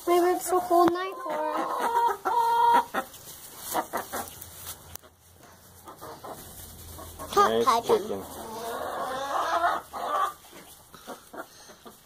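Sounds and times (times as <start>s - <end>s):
hen clucking: 0.1s - 12.0s.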